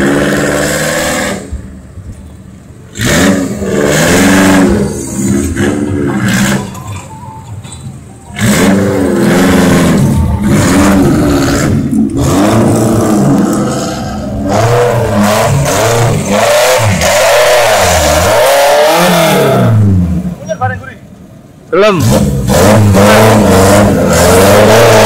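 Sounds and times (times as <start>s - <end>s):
engine revving hard: 0.0s - 1.5s, 2.9s - 6.7s, 8.4s - 20.2s, 22.0s - 25.0s.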